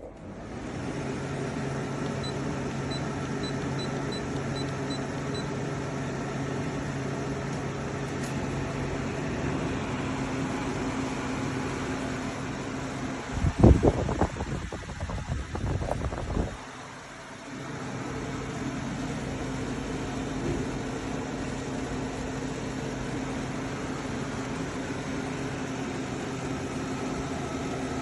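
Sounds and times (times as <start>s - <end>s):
air conditioner humming: 0.0s - 28.0s.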